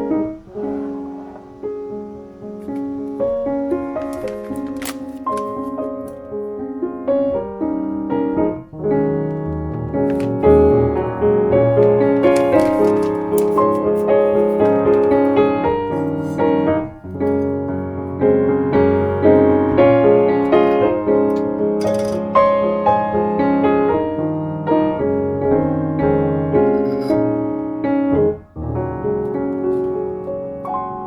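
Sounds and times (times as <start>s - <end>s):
gentle piano melody: 0.0s - 31.0s.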